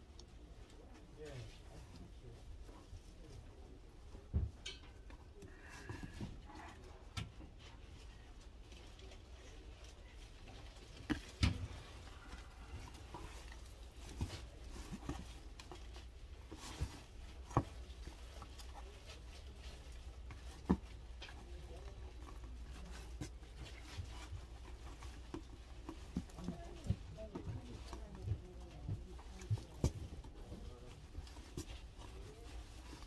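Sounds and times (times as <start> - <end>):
flower stems tapping and rustling: 0.0 - 33.0.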